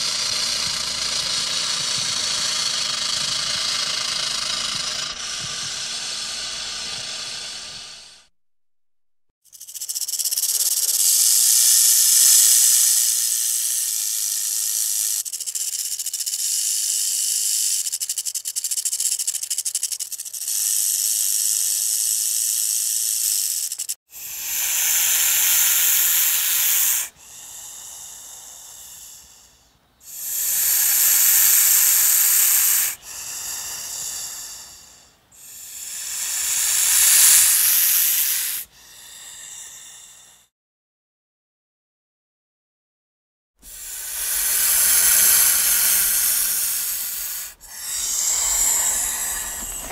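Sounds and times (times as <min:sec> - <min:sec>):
snake hissing: 0:00.0 - 0:08.3, 0:09.5 - 0:40.5, 0:43.6 - 0:49.9.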